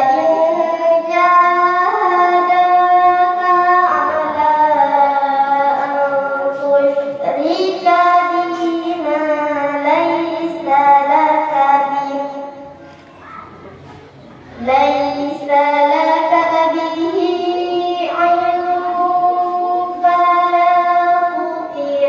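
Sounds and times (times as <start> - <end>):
young voice chanting recitation: 0.0 - 13.8, 14.4 - 22.0.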